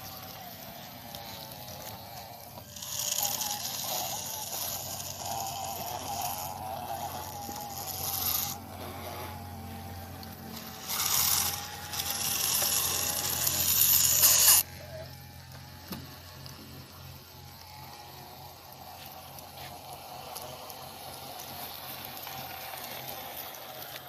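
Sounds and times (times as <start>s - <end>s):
loud hissing rattle: 0.0s - 24.0s
small electric motor whining: 0.0s - 24.0s.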